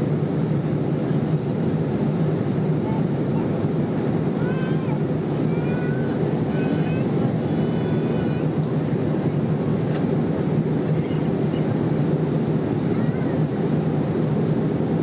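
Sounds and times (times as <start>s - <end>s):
airplane cabin engine rush: 0.0s - 15.0s
constant hum: 0.0s - 15.0s
faint voices: 0.2s - 14.5s.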